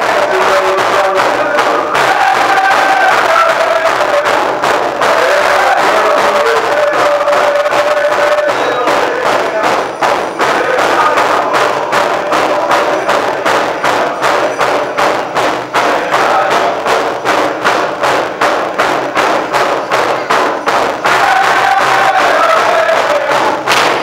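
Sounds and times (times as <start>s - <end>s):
group singing: 0.0s - 24.0s
large drum beating: 0.0s - 24.0s.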